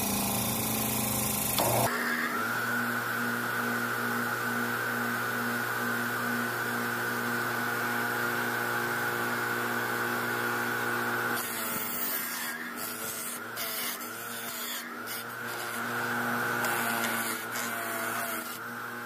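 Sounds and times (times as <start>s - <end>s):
bench grinder humming: 0.0s - 19.0s.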